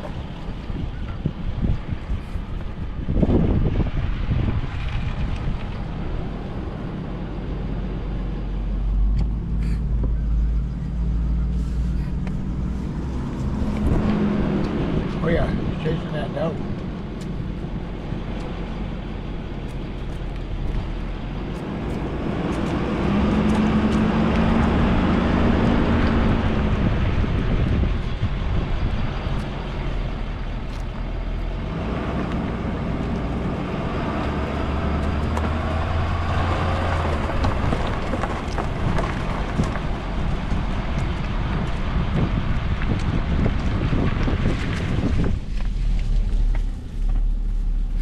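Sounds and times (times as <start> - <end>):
rushing wind noise: 0.0 - 48.0
vehicle engine running: 0.0 - 48.0.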